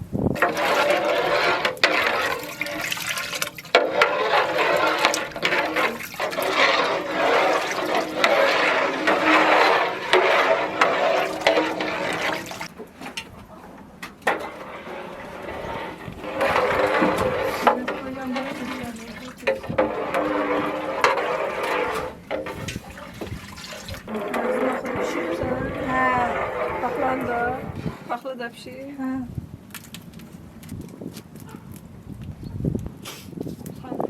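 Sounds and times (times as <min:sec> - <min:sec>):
water pouring and splashing: 0:00.4 - 0:28.2.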